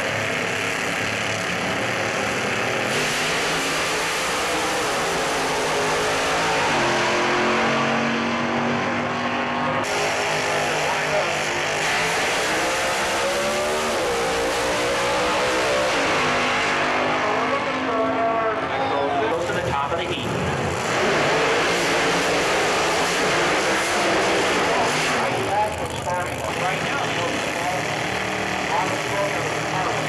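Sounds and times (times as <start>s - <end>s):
drag racing engines roaring: 0.0s - 30.0s.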